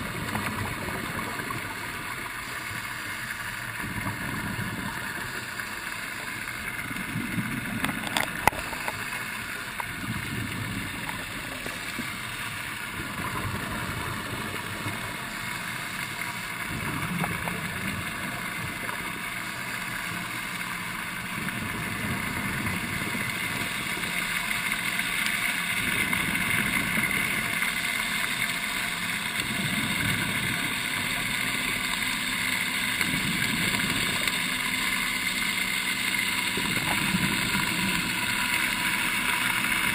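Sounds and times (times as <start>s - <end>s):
low rumbles of exhaled bubbles: 0.0s - 39.9s
underwater machine hum: 0.0s - 39.9s.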